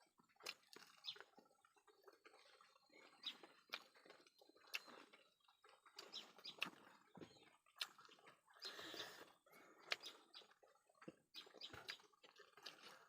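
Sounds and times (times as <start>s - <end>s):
wet eating clicks and smacks: 0.1s - 13.0s.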